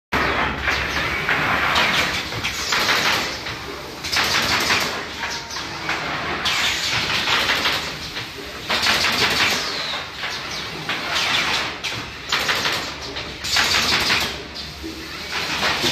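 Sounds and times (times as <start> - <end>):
machine running noise: 0.1 - 15.9
machine clattering: 0.2 - 15.9.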